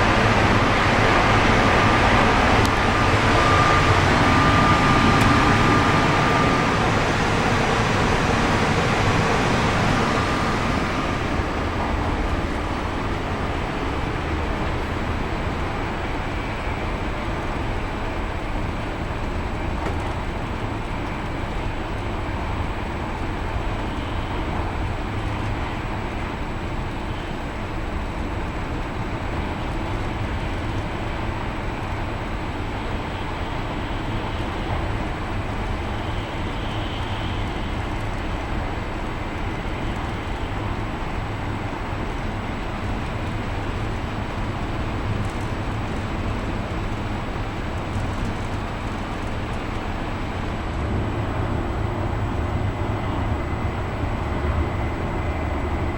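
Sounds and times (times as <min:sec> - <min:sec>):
train rumble with hiss inside cabin: 0:00.0 - 0:55.9.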